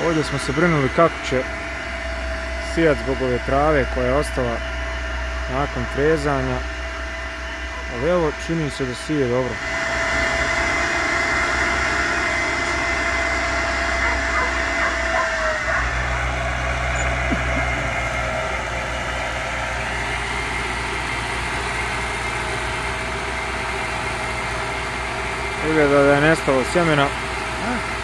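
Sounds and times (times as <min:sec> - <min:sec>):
high whine gliding down: 0:00.0 - 0:28.0
tractor diesel engine running: 0:00.0 - 0:28.0.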